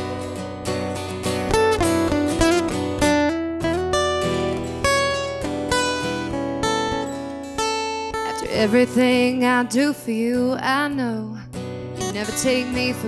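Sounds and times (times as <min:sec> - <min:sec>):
acoustic guitars playing: 0:00.0 - 0:13.0.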